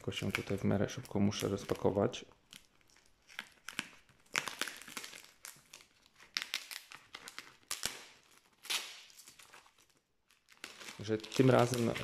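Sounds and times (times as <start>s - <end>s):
wrapping crinkling and tearing: 0.0s - 12.0s.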